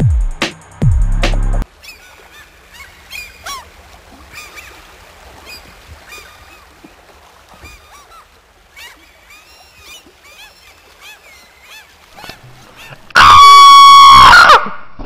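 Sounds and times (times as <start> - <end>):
gulls calling: 1.6 - 14.6.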